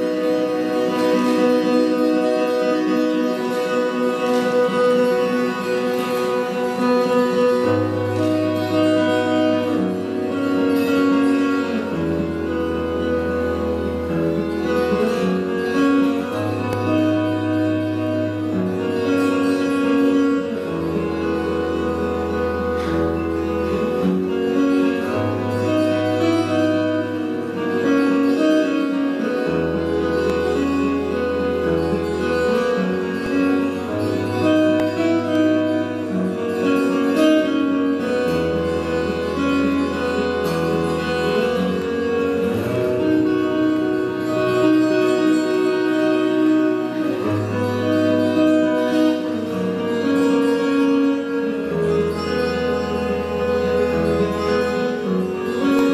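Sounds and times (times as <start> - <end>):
fingerstyle acoustic guitar: 0.0 - 55.9.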